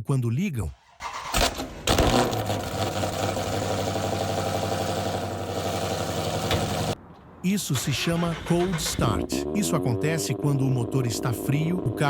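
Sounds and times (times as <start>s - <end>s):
car engine starting and idling: 0.8s - 12.0s.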